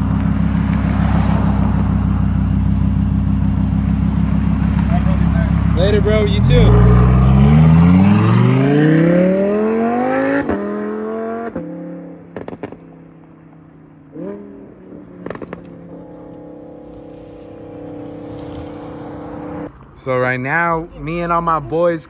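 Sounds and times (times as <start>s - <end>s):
car engine accelerating: 0.0s - 13.1s, 14.0s - 22.0s.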